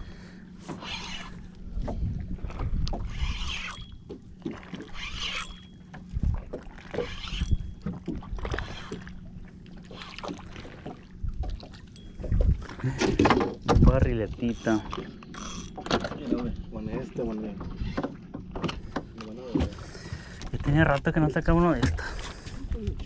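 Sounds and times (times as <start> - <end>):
low steady hum: 0.0 - 23.0
water sloshing against boat hull: 0.0 - 23.0.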